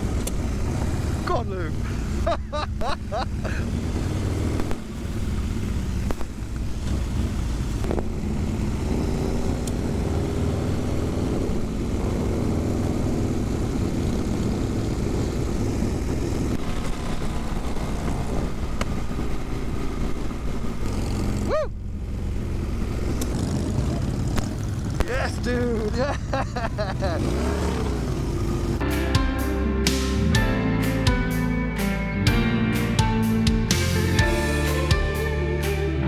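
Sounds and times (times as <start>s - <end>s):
wind and road noise: 0.0s - 28.9s
motorcycle engine running: 0.0s - 31.5s.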